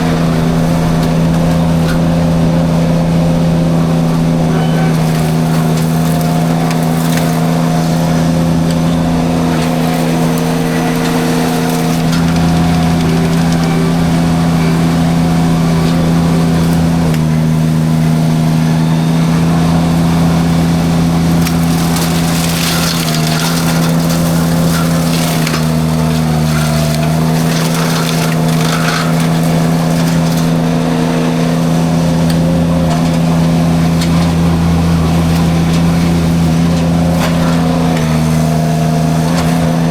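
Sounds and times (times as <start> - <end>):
engine running hard: 0.0 - 39.9
mulcher grinding brush: 0.0 - 39.9
wood crackling and splintering: 0.0 - 39.9.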